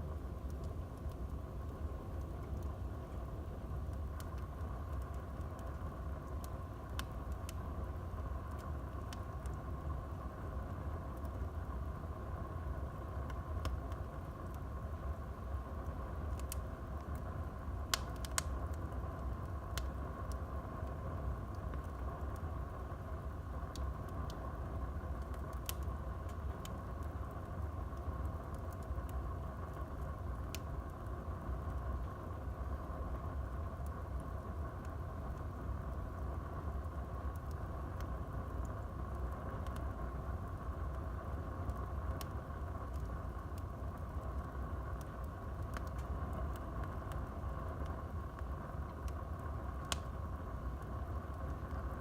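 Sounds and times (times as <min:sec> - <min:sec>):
burning logs crackling and popping: 0:00.0 - 0:52.0
low rumble of flames: 0:00.0 - 0:52.0.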